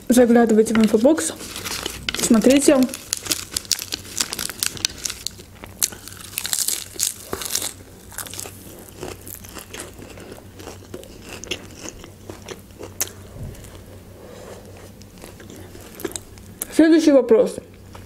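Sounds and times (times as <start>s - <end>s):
lettuce crunching: 0.7s - 13.9s, 14.6s - 16.6s.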